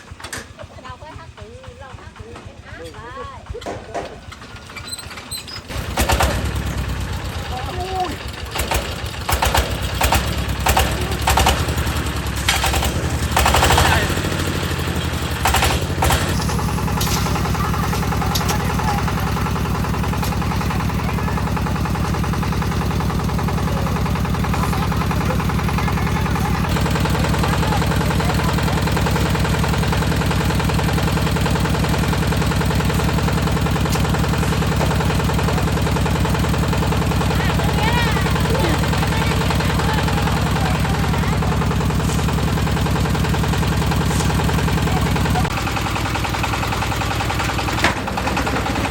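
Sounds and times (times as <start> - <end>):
concrete mixer engine running: 0.0 - 48.9
sharp clattering knocks: 3.6 - 48.9.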